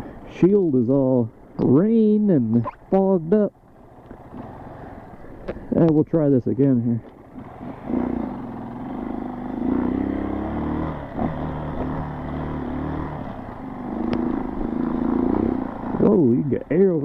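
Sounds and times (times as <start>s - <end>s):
dirt bike engine under throttle: 1.6s - 5.9s, 7.1s - 17.0s.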